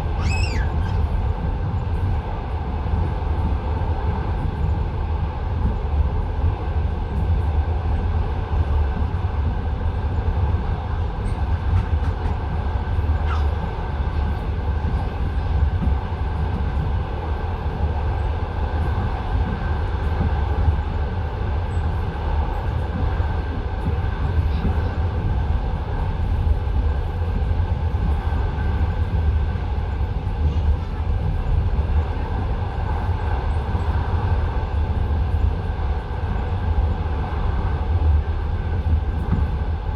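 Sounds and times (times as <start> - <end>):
train rumble from inside carriage: 0.0 - 39.9.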